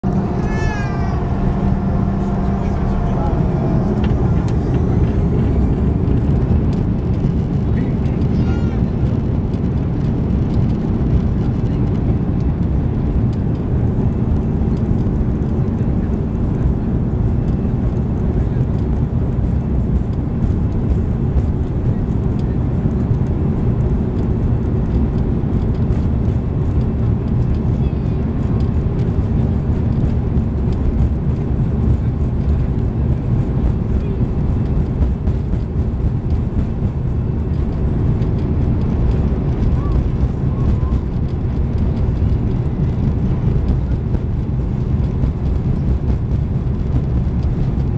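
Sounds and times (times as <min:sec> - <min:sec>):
airliner cabin engine rumble: 0:00.0 - 0:47.9
faint engine tones: 0:00.0 - 0:47.9.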